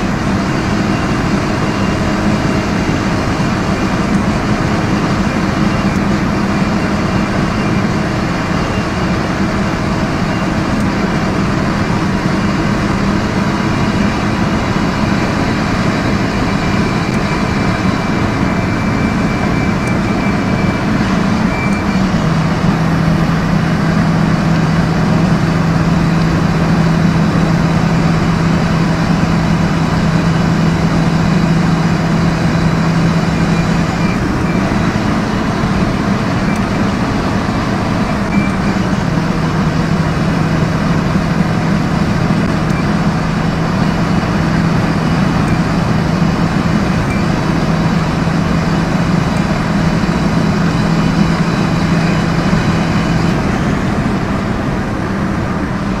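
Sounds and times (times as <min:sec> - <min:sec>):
car engine running at high revs: 0:00.0 - 0:56.0
road noise: 0:00.0 - 0:56.0.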